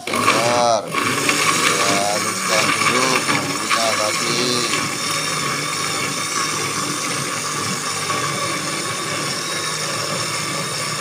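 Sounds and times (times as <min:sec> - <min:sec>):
electric blender grinding: 0:00.0 - 0:11.0.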